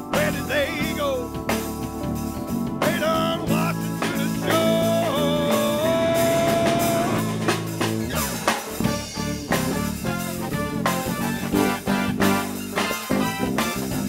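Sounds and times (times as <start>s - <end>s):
drum kit beat: 0.0s - 14.0s
guitar: 0.0s - 14.0s
live band music: 0.0s - 14.0s.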